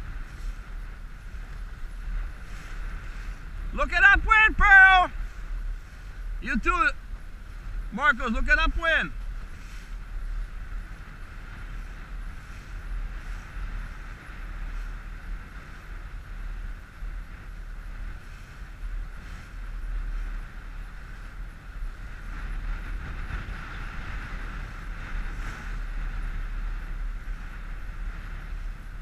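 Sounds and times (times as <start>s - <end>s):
outboard motor drone: 0.0s - 29.0s
water washing along hull: 0.0s - 29.0s
wind buffeting microphone: 0.0s - 29.0s.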